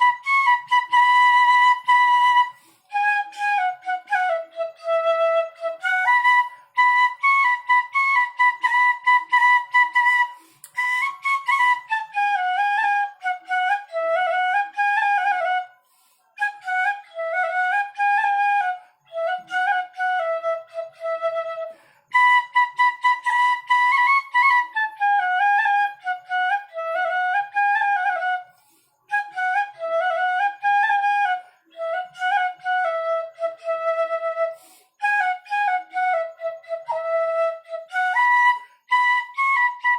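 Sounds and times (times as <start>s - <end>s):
bamboo flute melody: 0.0s - 39.9s.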